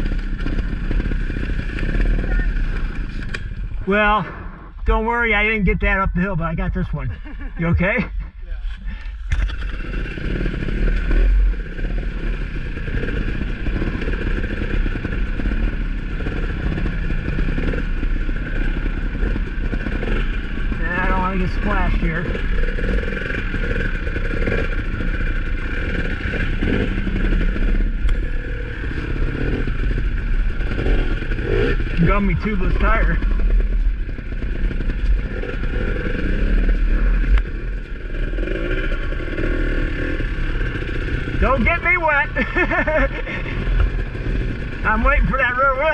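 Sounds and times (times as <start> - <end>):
dirt bike engines at low speed: 0.0 - 45.9.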